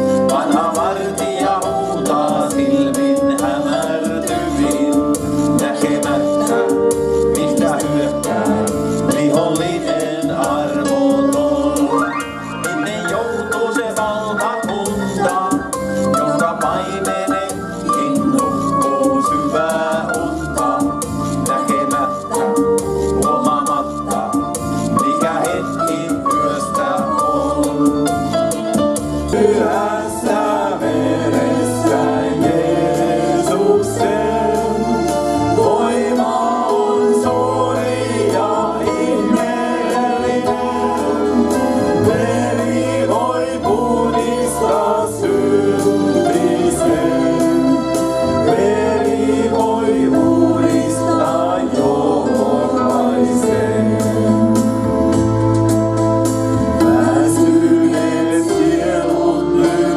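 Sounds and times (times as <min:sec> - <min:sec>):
group singing worship song: 0:00.0 - 0:59.9.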